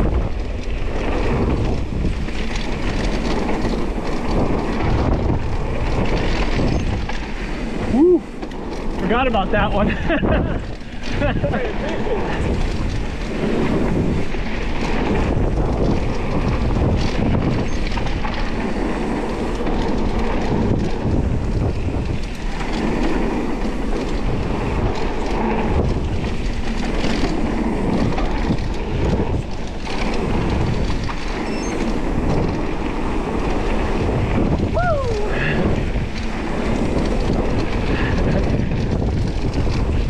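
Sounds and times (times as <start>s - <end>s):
bike rattling over bumps: 0.0s - 40.0s
tyre roar on dirt: 0.0s - 40.0s
wind on microphone: 0.0s - 40.0s.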